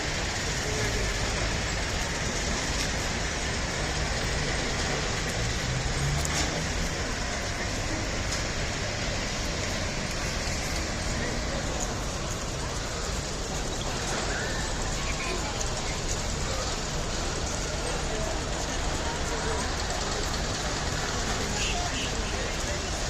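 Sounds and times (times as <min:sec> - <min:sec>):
fairground rides rumbling: 0:00.0 - 0:23.0.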